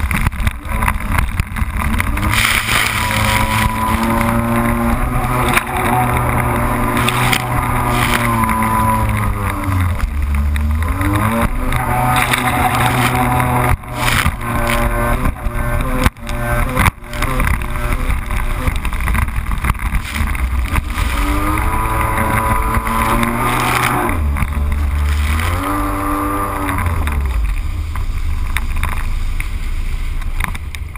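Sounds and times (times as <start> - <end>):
jet ski engine at speed: 0.0 - 30.9.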